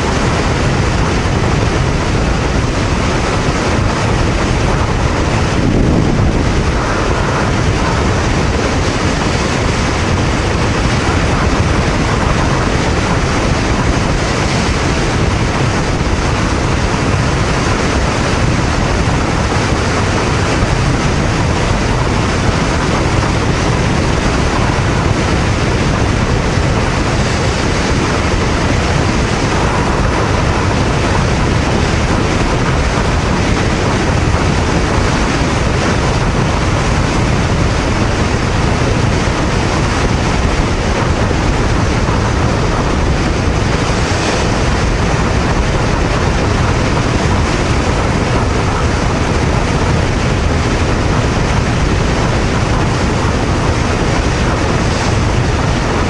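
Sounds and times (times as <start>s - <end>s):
motorcycle road noise: 0.0s - 56.0s
wind rushing over microphone: 0.0s - 56.0s.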